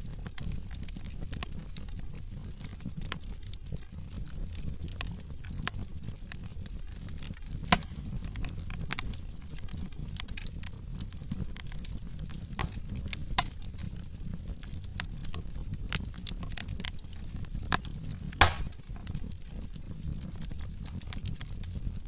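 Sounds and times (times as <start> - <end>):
logs crackling and popping: 0.0 - 22.0
low rumble of flame: 0.0 - 22.0.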